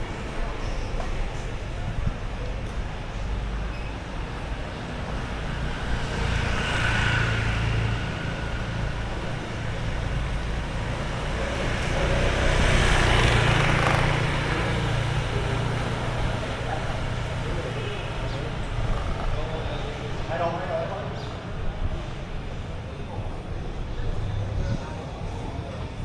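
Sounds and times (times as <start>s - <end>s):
low traffic rumble: 0.0s - 26.0s
vehicles passing by: 0.0s - 26.0s.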